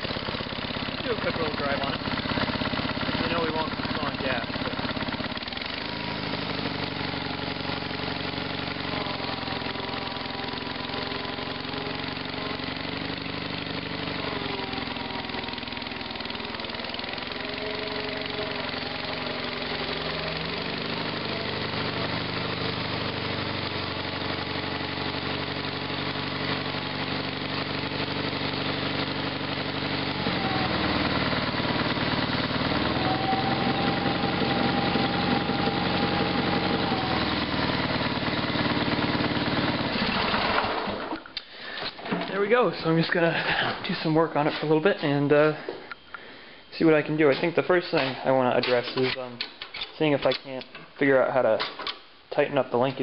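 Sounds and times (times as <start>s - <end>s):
garden tractor engine running: 0.0s - 52.0s.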